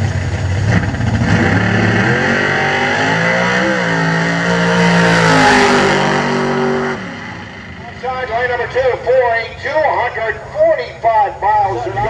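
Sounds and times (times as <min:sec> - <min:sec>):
drag race car engine at full throttle: 0:00.0 - 0:12.0.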